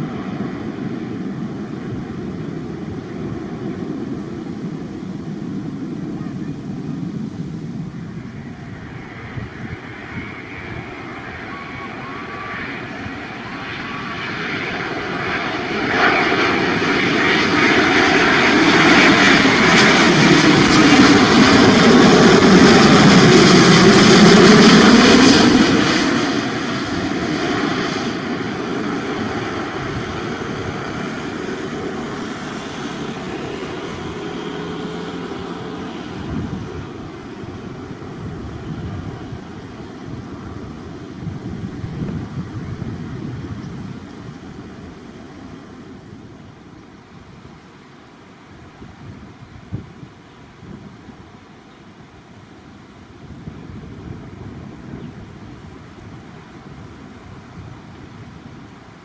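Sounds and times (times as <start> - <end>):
jet airliner passing overhead: 0.0 - 59.0.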